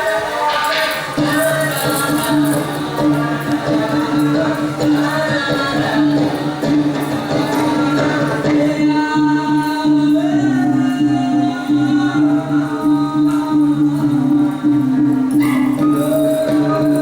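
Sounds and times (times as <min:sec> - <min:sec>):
person singing a melody: 0:00.0 - 0:17.0.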